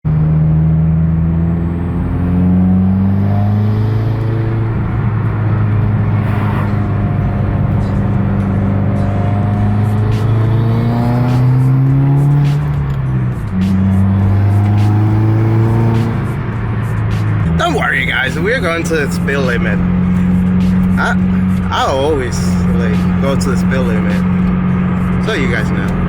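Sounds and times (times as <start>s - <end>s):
vehicle engine accelerating: 0.0s - 26.0s.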